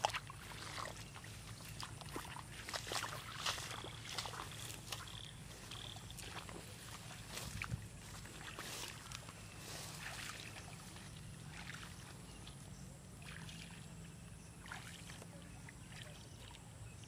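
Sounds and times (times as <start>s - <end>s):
person wading through water: 0.0s - 17.0s.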